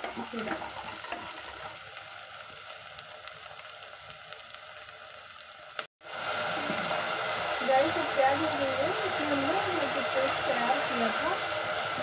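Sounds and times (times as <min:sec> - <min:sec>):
onions sizzling in butter: 0:00.0 - 0:12.0.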